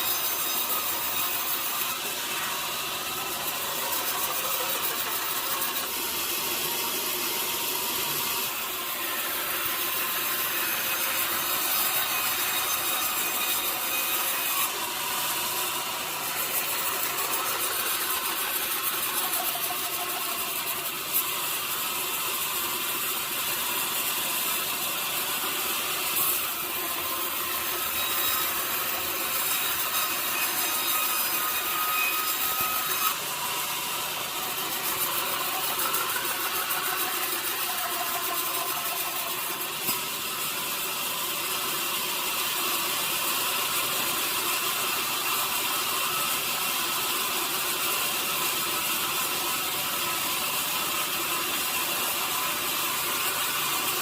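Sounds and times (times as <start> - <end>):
saw cutting wood: 0.0 - 54.0
sawmill machinery running: 0.0 - 54.0.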